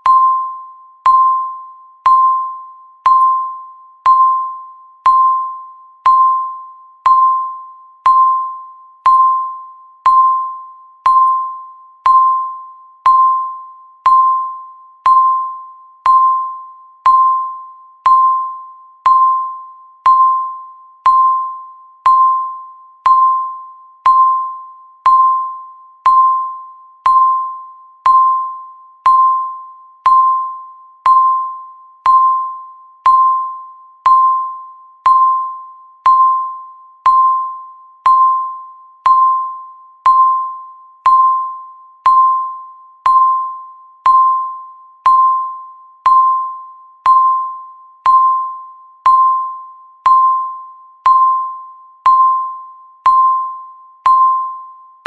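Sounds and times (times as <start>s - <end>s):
countdown timer beeping: 0.0s - 54.7s.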